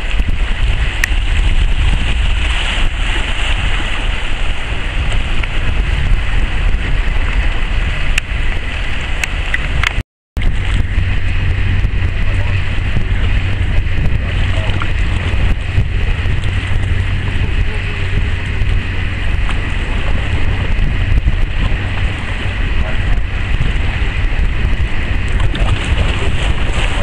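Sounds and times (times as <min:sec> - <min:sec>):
sea water washing around rocks: 0:00.0 - 0:27.0
wind rumbling on microphone: 0:00.0 - 0:27.0.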